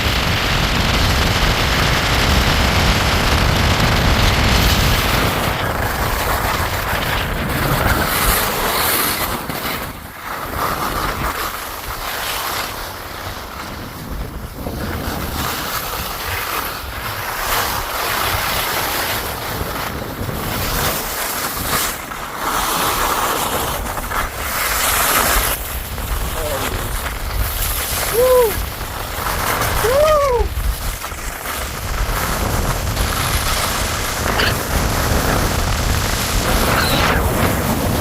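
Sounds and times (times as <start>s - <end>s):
wind buffeting microphone: 0.0s - 12.0s, 12.8s - 22.2s, 23.6s - 38.0s.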